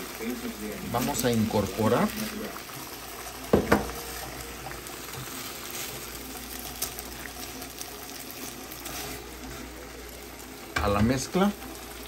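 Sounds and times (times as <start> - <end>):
sauce bubbling and sizzling in pan: 0.0 - 12.0.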